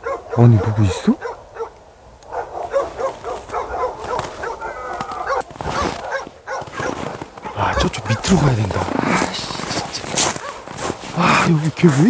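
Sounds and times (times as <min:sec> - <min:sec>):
dogs barking: 0:00.0 - 0:11.5.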